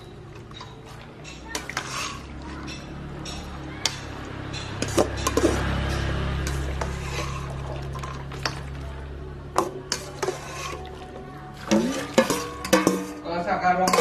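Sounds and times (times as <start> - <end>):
metal bowl clinking on colander: 0.0 - 8.8, 9.5 - 11.0, 11.6 - 14.0.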